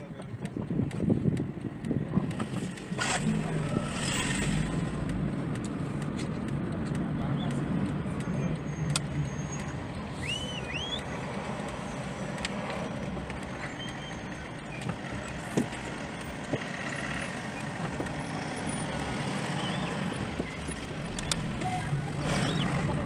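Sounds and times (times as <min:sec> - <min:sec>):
car engine and road noise: 0:00.0 - 0:23.0
sharp clicks: 0:00.4 - 0:23.0.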